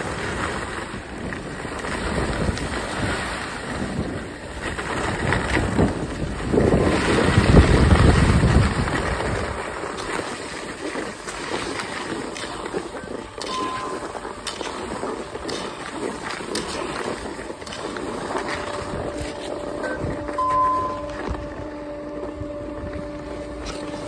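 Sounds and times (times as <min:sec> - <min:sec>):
skis scraping over snow: 0:00.0 - 0:24.0
wind buffeting microphone: 0:00.0 - 0:24.0.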